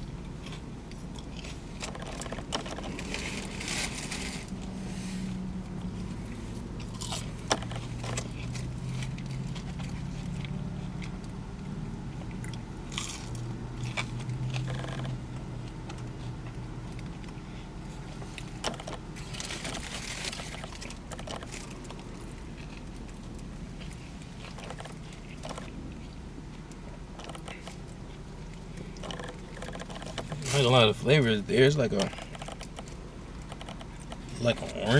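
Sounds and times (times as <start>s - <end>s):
person chewing food: 0.0s - 3.6s, 5.4s - 30.4s
low steady hum: 0.0s - 34.9s.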